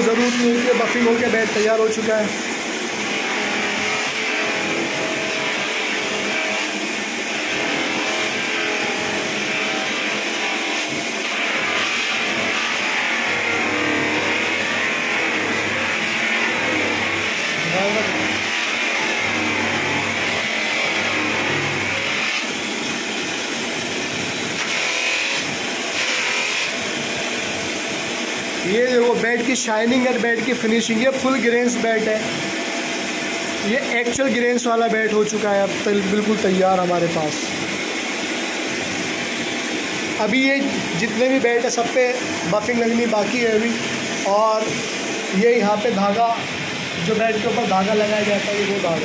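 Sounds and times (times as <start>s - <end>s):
electric buffing machine: 0.0s - 49.0s.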